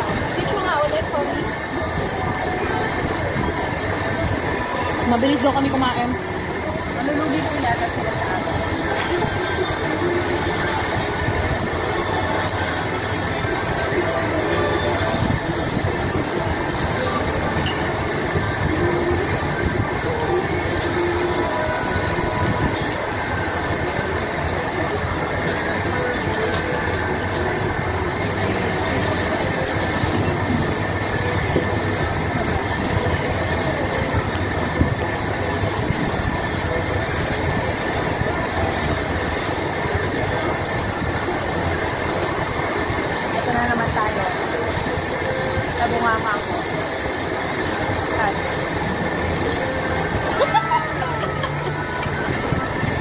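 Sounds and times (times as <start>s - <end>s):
faint indistinct voices: 0.0s - 53.0s
restaurant rumbling din: 0.0s - 53.0s
ventilation rushing hum: 0.0s - 53.0s.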